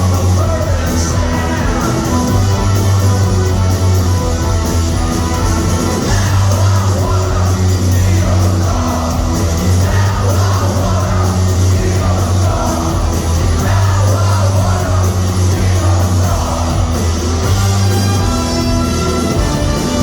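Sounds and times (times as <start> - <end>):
distorted guitars: 0.0 - 20.0
heavy bass line: 0.0 - 20.0
live rock band playing: 0.0 - 20.0
shouted singing: 0.0 - 20.0.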